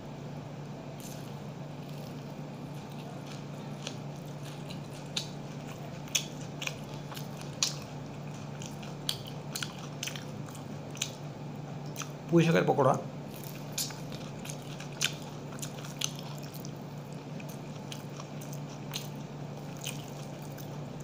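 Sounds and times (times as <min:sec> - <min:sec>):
crunchy chewing: 0:00.9 - 0:12.3, 0:13.2 - 0:21.0.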